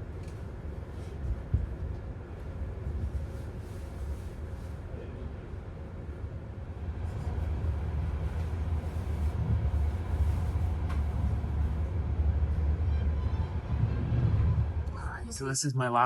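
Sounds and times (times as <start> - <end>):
train rumble inside carriage: 0.0 - 15.5.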